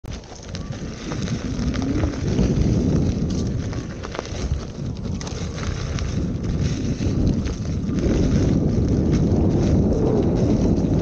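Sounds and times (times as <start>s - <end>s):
tyre rolling over dirt trail: 0.1s - 11.0s
wind buffeting microphone: 0.1s - 11.0s.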